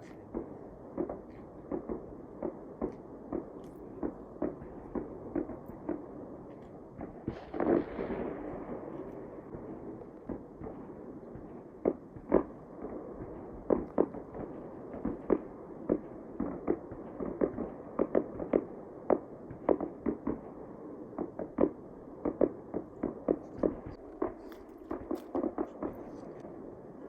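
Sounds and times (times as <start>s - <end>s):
fireworks bangs: 0.0s - 20.5s, 21.1s - 26.6s.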